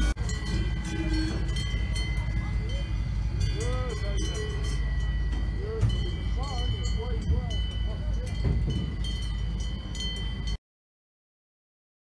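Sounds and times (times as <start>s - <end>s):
cow bells ringing: 0.0s - 10.6s.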